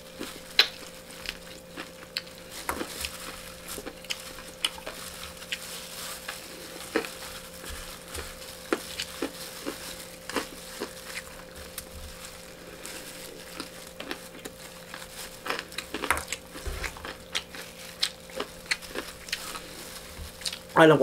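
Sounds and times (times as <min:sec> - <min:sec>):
plastic glove and foil crinkling: 0:00.0 - 0:21.0
chewing: 0:00.2 - 0:20.8.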